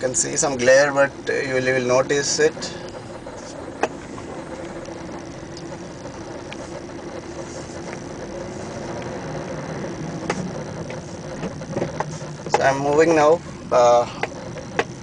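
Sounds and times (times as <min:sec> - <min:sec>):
car engine hum inside cabin: 0:00.0 - 0:15.0
faint high whine: 0:00.0 - 0:15.0.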